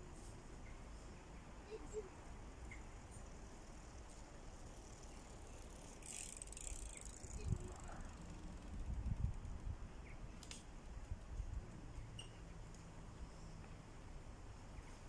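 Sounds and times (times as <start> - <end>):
bicycle tyres and freewheel hiss: 0.0 - 15.0.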